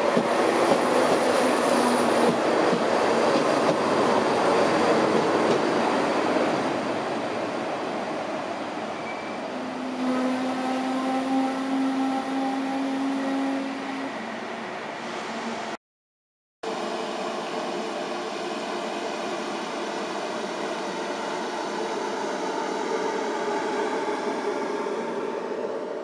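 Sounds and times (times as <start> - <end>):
train whirring hum: 0.0 - 15.8, 16.7 - 26.0.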